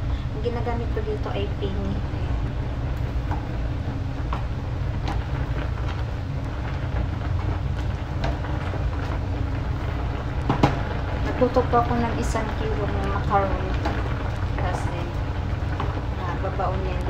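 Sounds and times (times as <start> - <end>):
pot of water boiling: 0.0 - 17.0.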